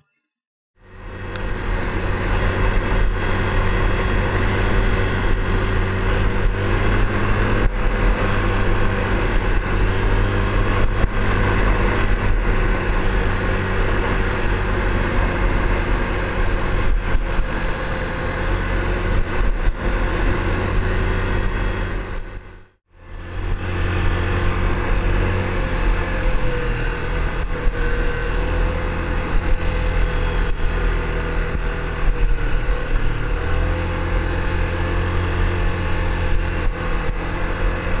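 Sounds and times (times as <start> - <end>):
quad bike engine running: 0.8 - 38.0.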